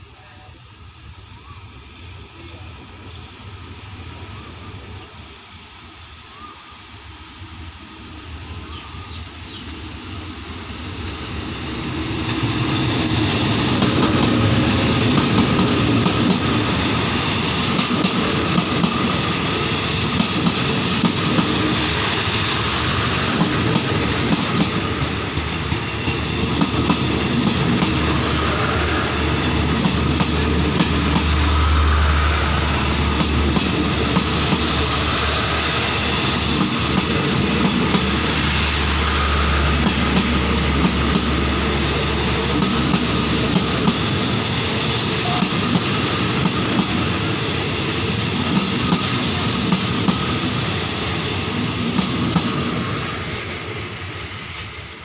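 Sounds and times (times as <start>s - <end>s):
diesel locomotive passing: 0.0s - 55.0s
train wheels clattering on rails: 9.5s - 55.0s.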